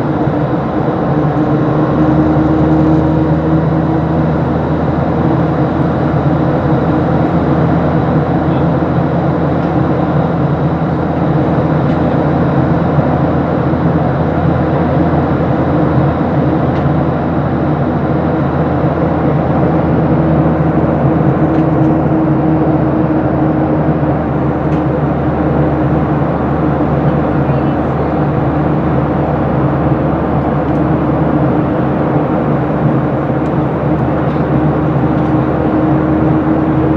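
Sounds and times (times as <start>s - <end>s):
low engine hum: 0.0s - 36.9s
rush of air in cabin: 0.0s - 36.9s.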